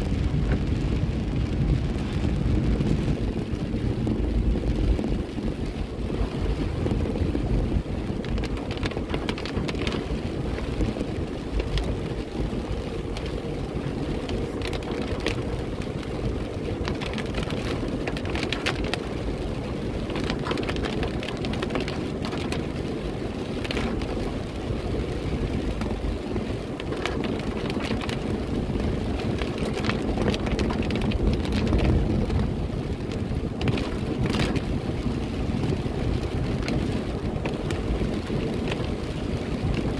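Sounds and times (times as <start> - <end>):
rain hitting car windshield: 0.0 - 39.9
tyres rumbling on wet road: 0.0 - 39.9.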